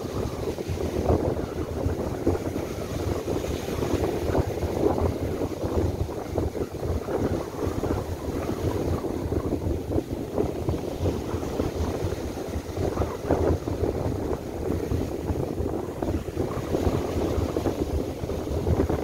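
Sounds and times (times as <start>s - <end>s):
gusty wind buffeting microphone: 0.0s - 19.0s
surf breaking on beach: 0.0s - 19.0s.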